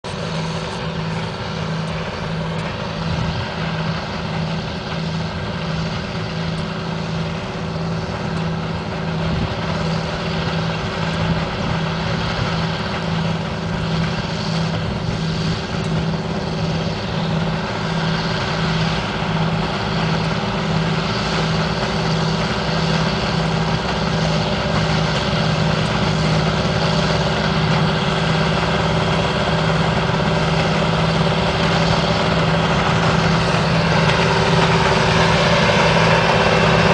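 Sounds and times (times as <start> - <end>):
engine drone: 0.0 - 36.9
pulsing low hum: 0.0 - 36.9.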